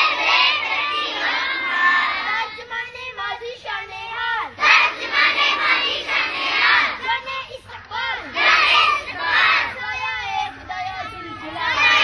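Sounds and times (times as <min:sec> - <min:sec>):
girls chanting in unison: 0:00.0 - 0:12.0.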